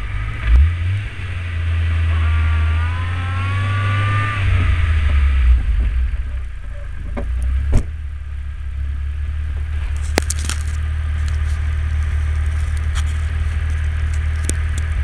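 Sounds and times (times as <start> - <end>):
car engine idling low drone: 0.0 - 15.0.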